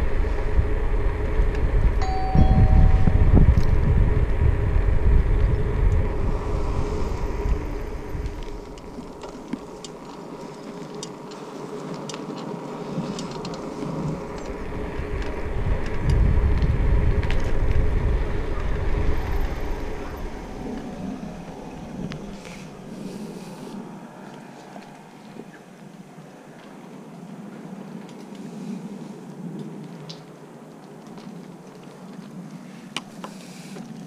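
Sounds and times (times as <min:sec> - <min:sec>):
wind buffeting microphone: 0:00.0 - 0:33.2.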